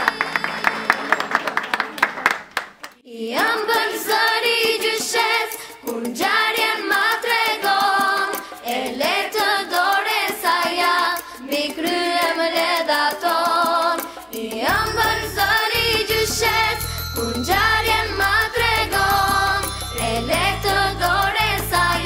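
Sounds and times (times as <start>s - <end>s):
several voices singing: 3.0s - 22.0s.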